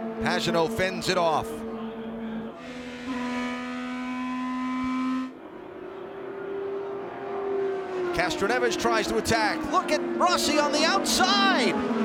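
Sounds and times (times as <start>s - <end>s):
racing car engines at full speed: 0.0s - 12.0s.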